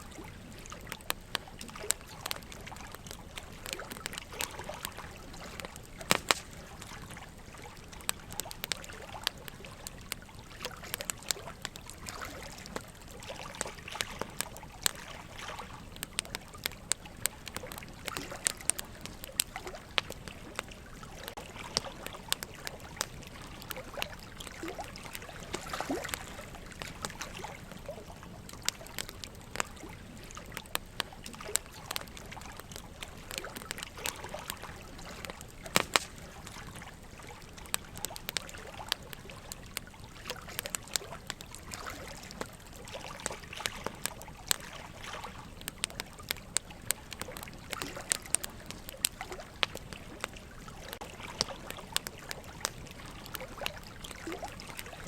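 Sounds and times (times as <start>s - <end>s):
running water trickling: 0.0s - 55.0s
wood fire crackling and popping: 0.0s - 55.0s.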